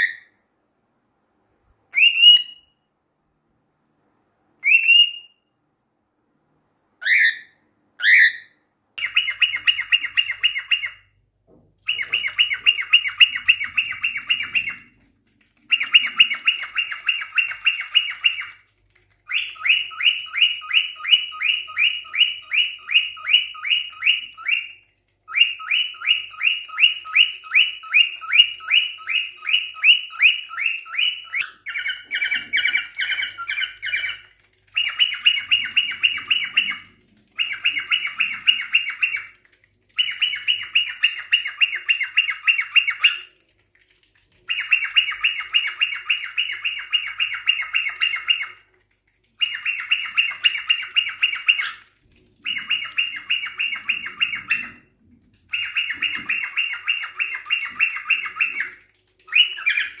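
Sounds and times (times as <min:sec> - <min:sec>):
cockatiel chirping: 0:00.0 - 0:00.3, 0:01.9 - 0:02.8, 0:04.6 - 0:05.4, 0:07.0 - 0:11.2, 0:11.8 - 0:43.3, 0:44.5 - 1:00.0.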